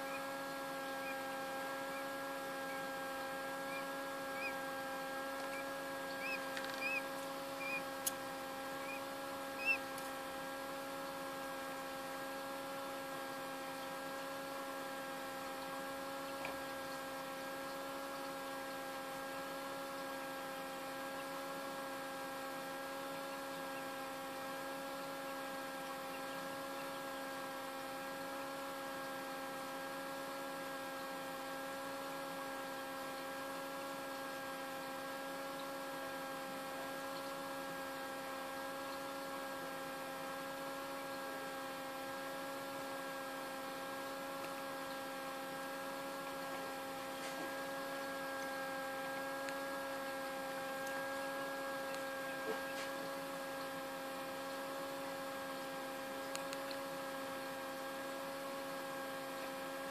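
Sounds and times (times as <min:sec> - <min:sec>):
fan motor humming: 0:00.0 - 0:59.9.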